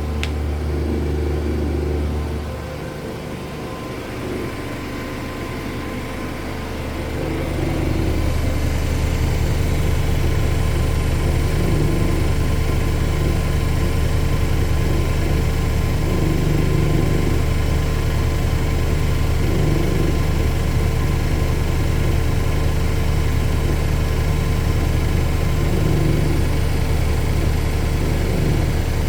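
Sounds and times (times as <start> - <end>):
washing machines spinning: 0.0 - 29.0.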